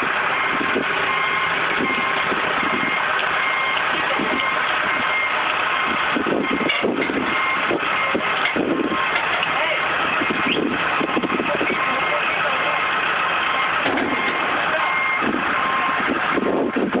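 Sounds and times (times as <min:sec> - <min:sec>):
reversing alarm beeping: 0:00.0 - 0:16.6
backhoe diesel engine: 0:00.0 - 0:17.0.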